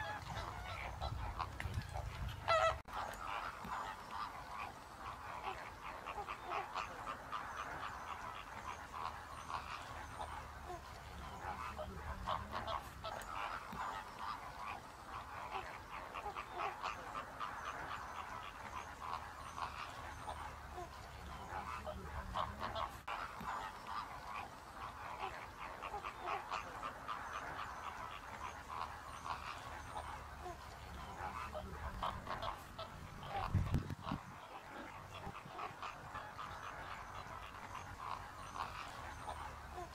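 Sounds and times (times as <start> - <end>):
flamingos honking and gabbling: 0.0 - 39.9.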